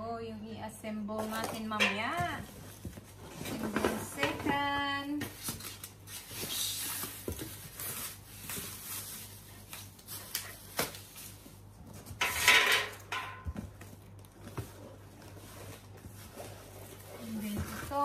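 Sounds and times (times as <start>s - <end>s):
plastic wrap and cardboard rustling: 1.2s - 18.0s.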